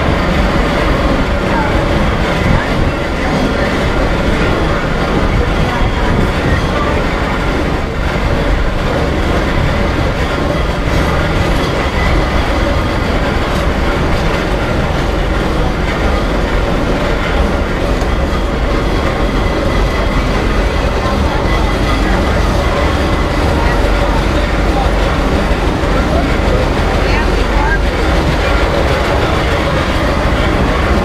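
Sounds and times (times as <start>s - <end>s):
trailer rumbling and rattling: 0.0s - 31.0s.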